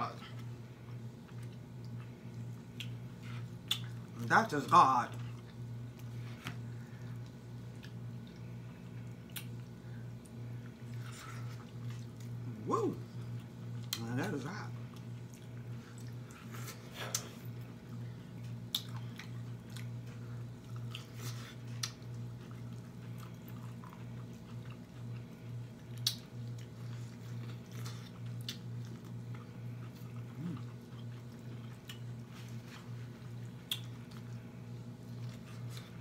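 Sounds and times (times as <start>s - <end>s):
steady low hum: 0.0s - 36.0s
chewing and lip smacking: 0.2s - 4.3s, 5.1s - 36.0s.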